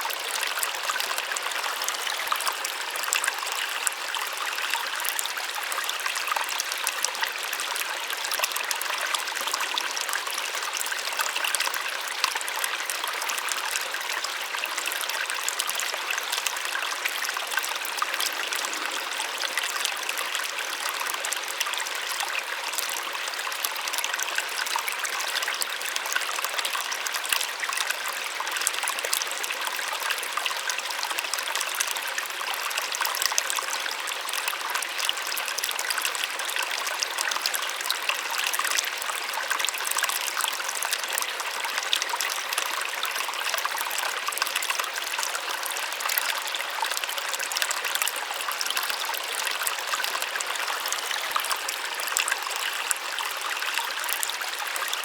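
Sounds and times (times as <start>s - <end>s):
small waterfall running: 0.0s - 55.0s.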